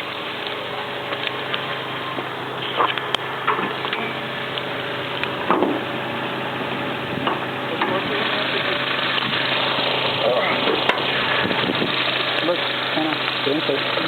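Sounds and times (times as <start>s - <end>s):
car engine idling: 0.0s - 14.0s
steady hiss: 0.0s - 14.0s.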